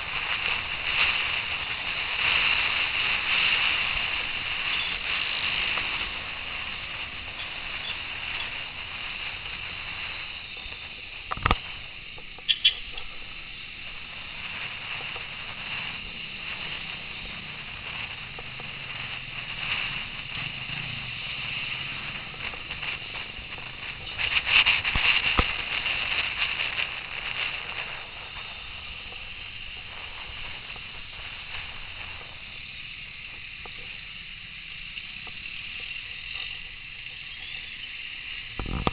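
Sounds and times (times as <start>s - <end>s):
wind and road rush: 0.0s - 38.9s.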